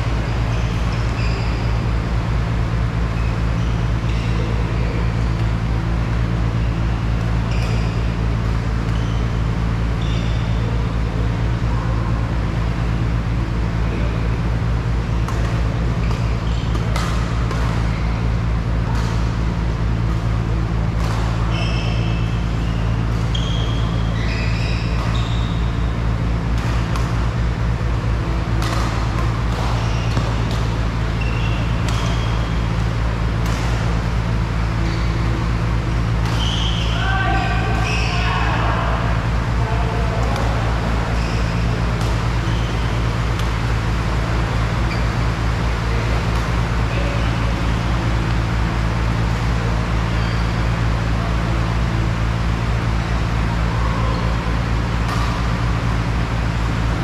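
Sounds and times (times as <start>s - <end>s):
court shoes squeaking: 0.0s - 57.0s
steady low hum: 0.0s - 57.0s
racket hitting shuttlecock: 0.1s - 57.0s.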